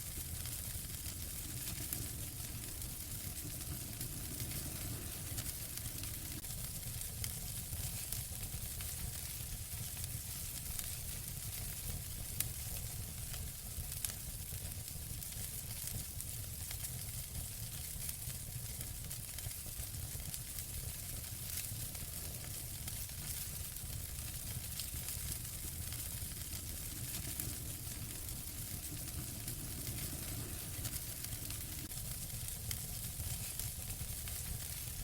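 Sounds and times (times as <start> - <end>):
wood fire hissing and crackling: 0.0 - 35.0.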